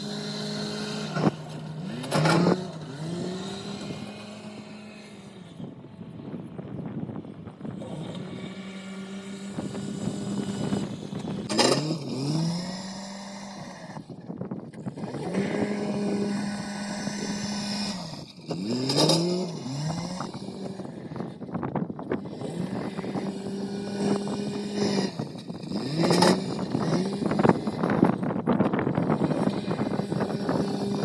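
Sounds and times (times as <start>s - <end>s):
machinery engine running: 0.0s - 31.0s.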